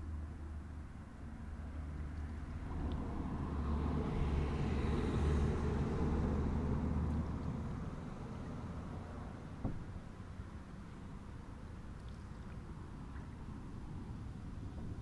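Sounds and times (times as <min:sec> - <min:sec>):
road vehicle passing by: 0:00.0 - 0:15.0.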